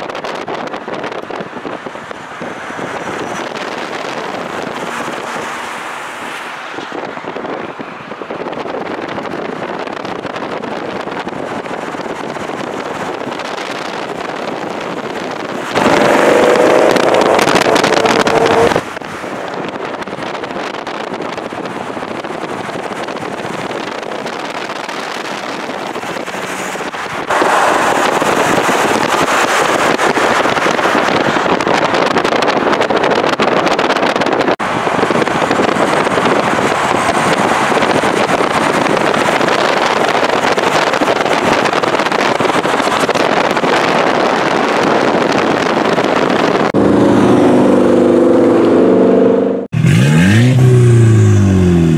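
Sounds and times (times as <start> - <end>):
car road noise: 0.0 - 51.9
wind rushing over microphone: 0.0 - 51.9.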